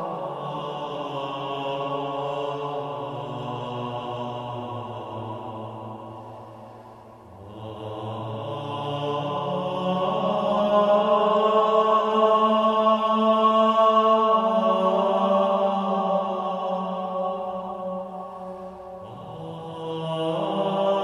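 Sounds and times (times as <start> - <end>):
meditative droning music: 0.0 - 21.0.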